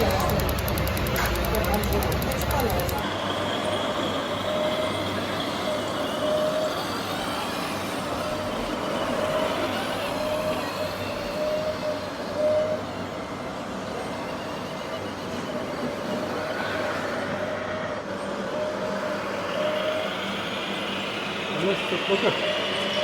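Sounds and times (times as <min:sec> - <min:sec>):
radio-controlled model truck whine: 0:00.0 - 0:23.0.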